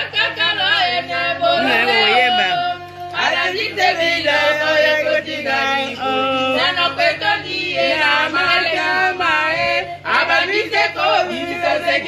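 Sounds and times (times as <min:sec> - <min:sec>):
women singing held notes: 0:00.0 - 0:12.0.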